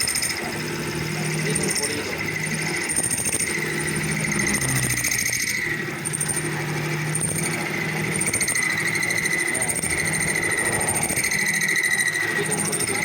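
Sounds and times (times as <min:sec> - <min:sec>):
lathe motor whine: 0:00.0 - 0:13.0.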